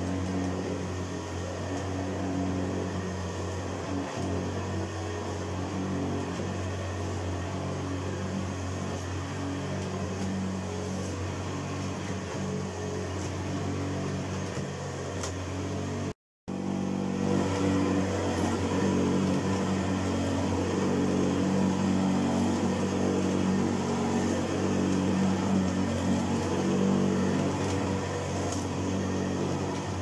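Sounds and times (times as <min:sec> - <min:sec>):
vacuum cleaner motor hum: 0:00.0 - 0:30.0.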